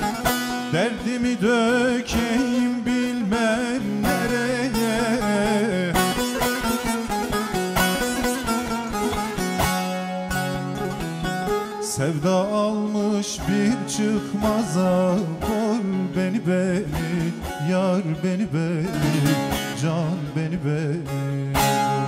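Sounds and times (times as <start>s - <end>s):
man singing ornamented line: 0.0s - 9.3s, 11.7s - 22.0s
long-necked lute plucked rapidly: 0.0s - 22.0s.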